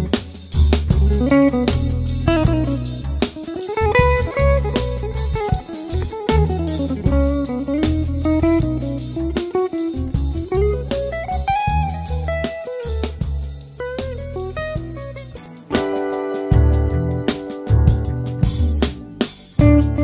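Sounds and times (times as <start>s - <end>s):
bass and drums beat: 0.0s - 20.0s
plucked guitar melody: 0.0s - 20.0s.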